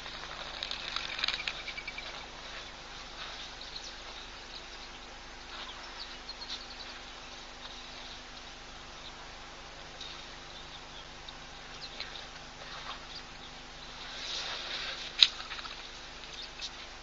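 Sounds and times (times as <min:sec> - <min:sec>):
insects chirping: 0:00.0 - 0:16.8
birds chirping: 0:00.0 - 0:17.0.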